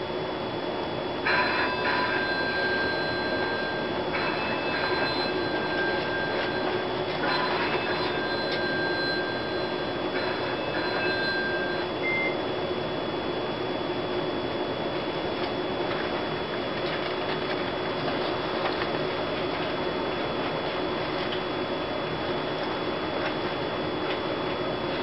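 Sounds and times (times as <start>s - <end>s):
constant hum: 0.0s - 25.0s.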